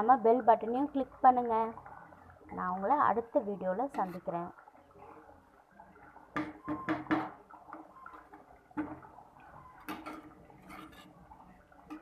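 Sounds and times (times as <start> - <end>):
thick gravy bubbling in a pot: 0.0 - 12.0.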